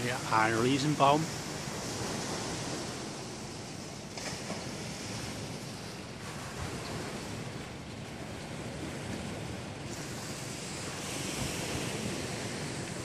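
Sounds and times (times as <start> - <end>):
surf rushing: 0.0 - 13.0
wind buffeting microphone: 0.0 - 13.0.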